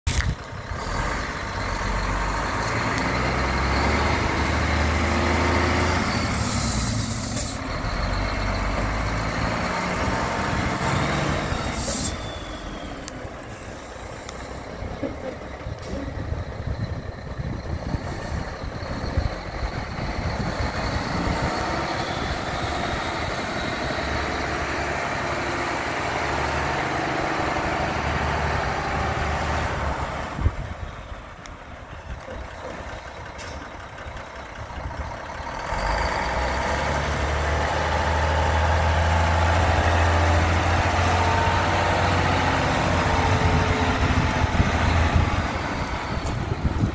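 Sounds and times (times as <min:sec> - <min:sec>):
truck diesel engine running: 0:00.1 - 0:46.9.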